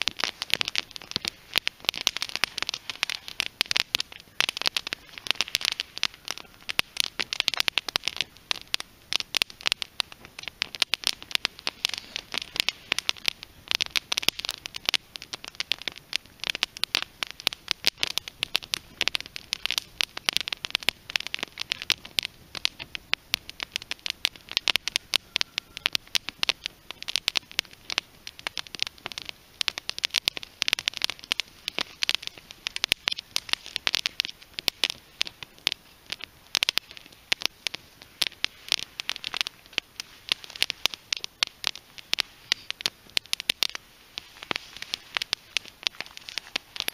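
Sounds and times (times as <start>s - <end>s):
fire crackling and popping: 0.0s - 46.9s.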